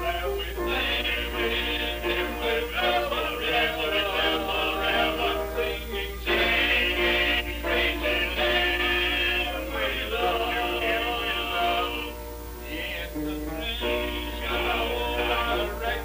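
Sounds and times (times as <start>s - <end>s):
men singing: 0.0s - 16.0s.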